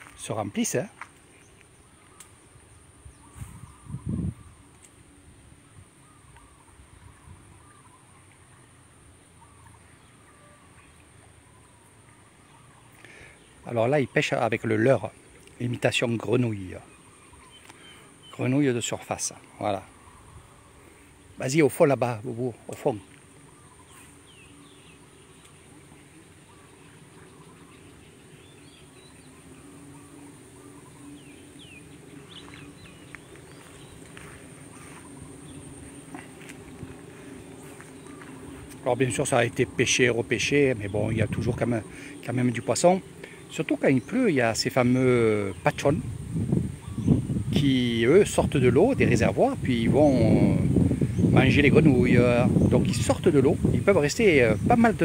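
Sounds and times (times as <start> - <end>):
low hum: 0.0 - 51.9
faint bird calls: 0.0 - 55.0
high-pitched insect drone: 0.0 - 55.0.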